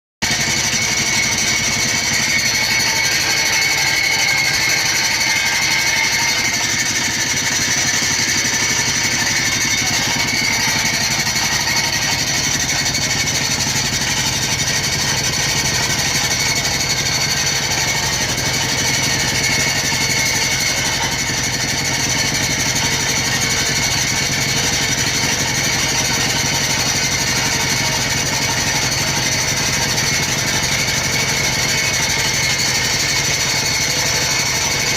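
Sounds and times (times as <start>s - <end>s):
grinding machine whining and rattling: 0.2s - 34.9s.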